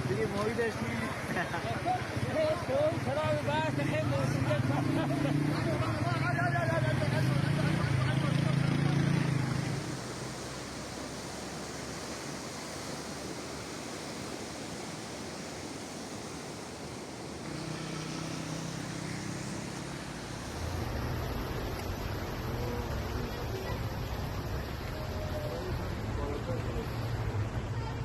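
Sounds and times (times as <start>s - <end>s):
rushing floodwater: 0.0s - 28.0s.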